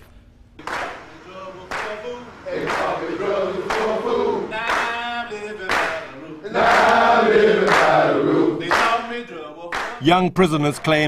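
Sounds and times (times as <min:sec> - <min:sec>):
men chanting in unison: 0:00.6 - 0:10.0.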